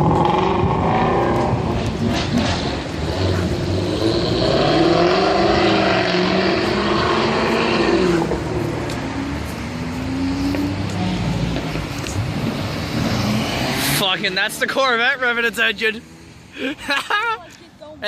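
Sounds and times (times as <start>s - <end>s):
car engine revving: 0.0s - 16.4s
quieter engine climbing: 0.0s - 17.3s.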